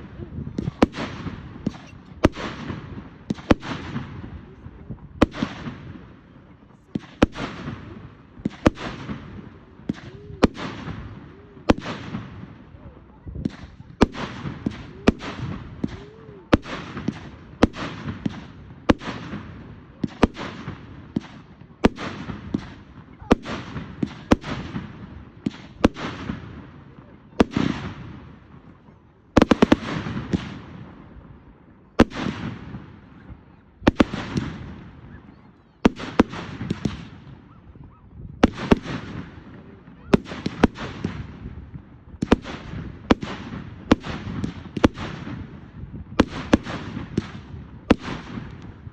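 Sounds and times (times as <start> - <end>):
fireworks banging: 0.0 - 12.6, 13.3 - 31.2, 32.0 - 37.6, 38.4 - 48.9.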